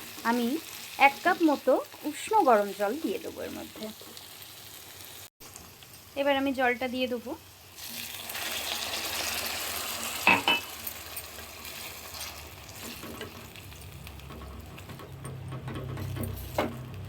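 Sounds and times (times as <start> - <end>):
food sizzling in a pan: 0.0 - 14.7.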